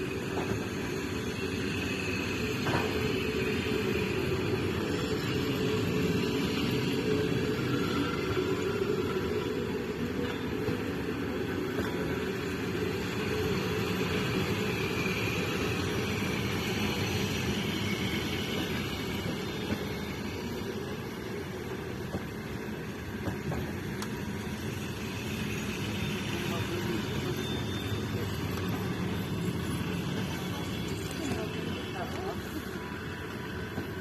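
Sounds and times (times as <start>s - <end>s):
train carriages rumbling past: 0.0s - 34.0s.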